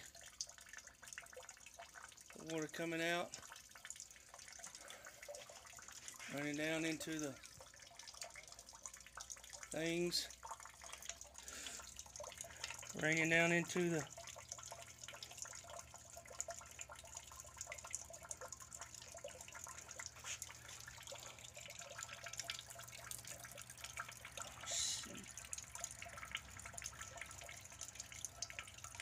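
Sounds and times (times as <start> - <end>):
water dripping into bucket: 0.0 - 29.0.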